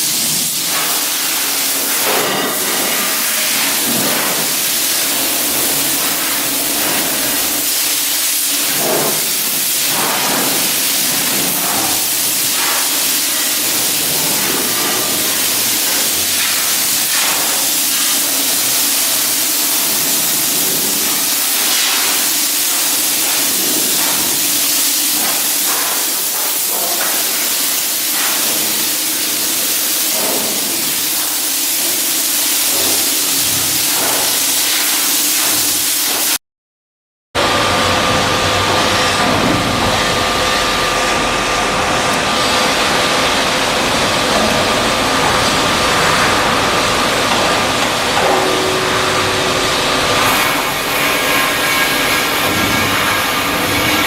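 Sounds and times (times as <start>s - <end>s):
loud steady hiss: 0.0s - 36.4s, 37.4s - 54.0s
machinery noise: 0.0s - 36.4s, 37.4s - 54.0s.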